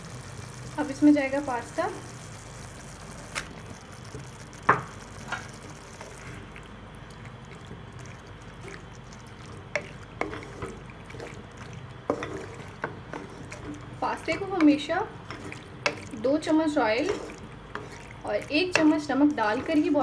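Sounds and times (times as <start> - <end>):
wet squelching and stirring: 0.0 - 20.0.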